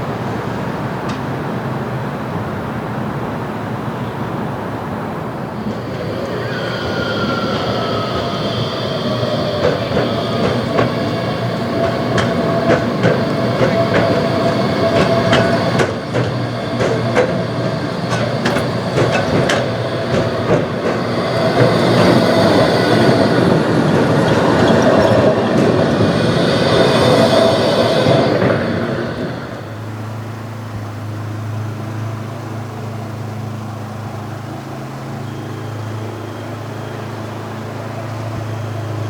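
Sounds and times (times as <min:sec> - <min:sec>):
tram wheel squeal: 0:00.0 - 0:39.0
wheels clicking on track: 0:00.1 - 0:39.0.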